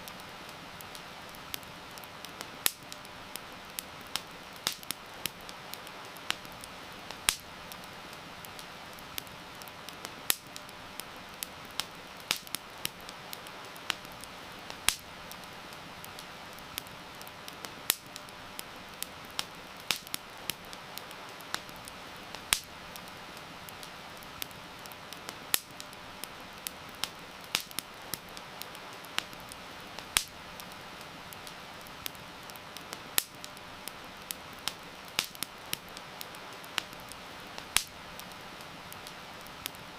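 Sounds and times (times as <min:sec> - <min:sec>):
campfire crackling and popping: 0:00.0 - 0:39.9
rain hiss: 0:00.0 - 0:39.9.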